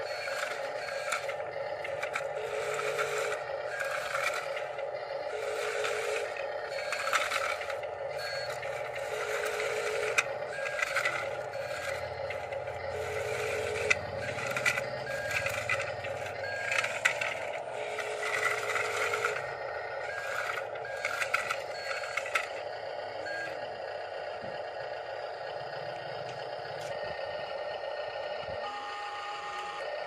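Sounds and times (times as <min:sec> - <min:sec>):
toy motors whining: 0:00.0 - 0:30.0.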